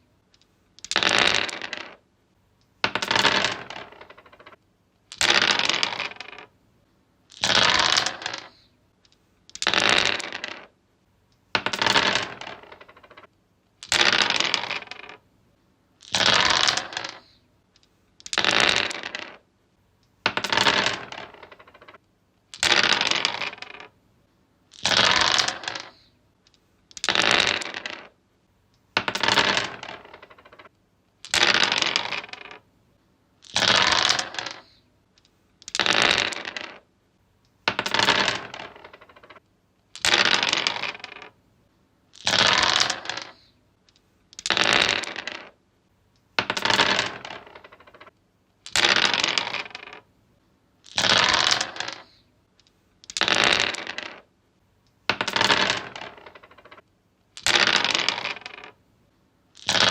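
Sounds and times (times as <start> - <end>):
dice rolling on wood: 0.4 - 6.5, 7.3 - 10.8, 11.4 - 15.3, 16.0 - 19.5, 20.1 - 24.0, 24.7 - 28.2, 28.8 - 32.7, 33.4 - 36.9, 37.5 - 41.4, 42.1 - 45.6, 46.2 - 50.1, 50.8 - 54.3, 54.9 - 58.8, 59.5 - 59.9.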